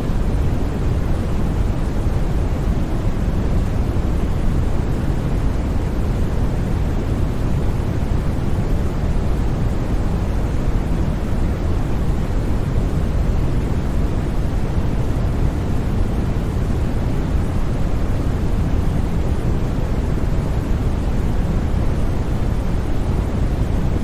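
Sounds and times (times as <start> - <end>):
deep white noise hiss: 0.0 - 24.0.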